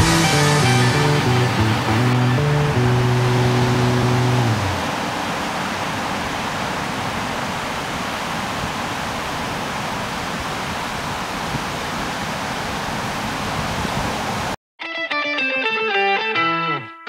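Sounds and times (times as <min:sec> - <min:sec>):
ocean surf roaring: 0:00.0 - 0:14.6.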